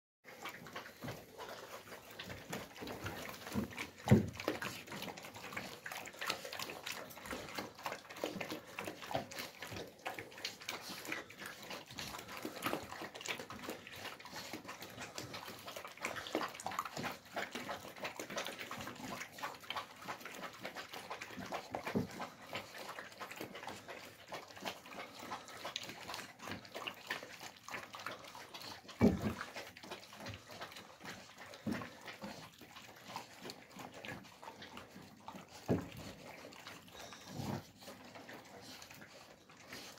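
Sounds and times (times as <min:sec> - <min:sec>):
puppies lapping and chewing: 0:00.2 - 0:39.9.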